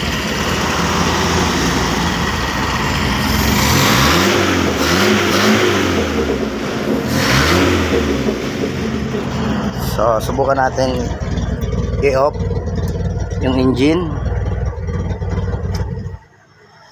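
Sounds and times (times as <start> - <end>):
engine revving: 0.0 - 16.4.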